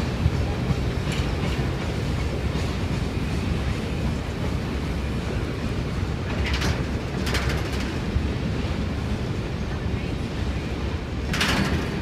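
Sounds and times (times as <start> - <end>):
train wagons rumbling: 0.0 - 12.0.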